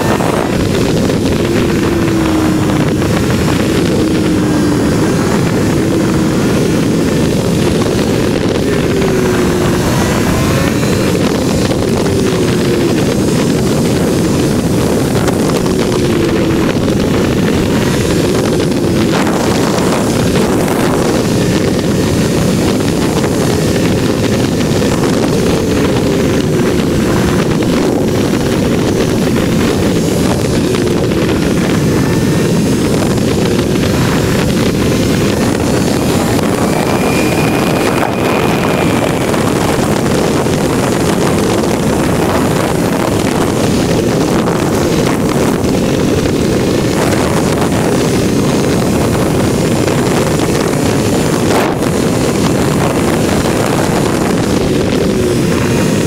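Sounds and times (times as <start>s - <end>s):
motorcycle engine at road speed: 0.0s - 56.0s
wind rushing: 0.0s - 56.0s.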